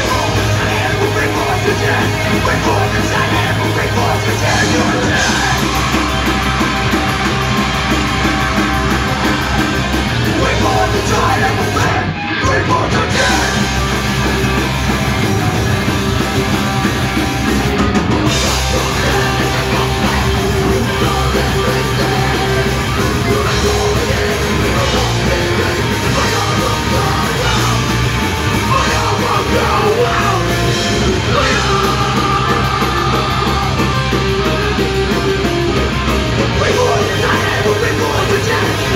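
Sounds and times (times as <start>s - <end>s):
punk band playing live: 0.0s - 38.9s.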